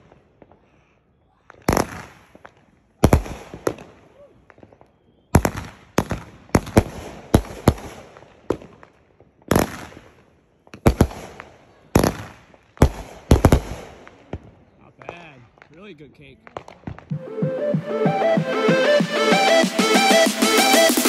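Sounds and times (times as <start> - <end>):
firework bangs: 0.0 - 17.2.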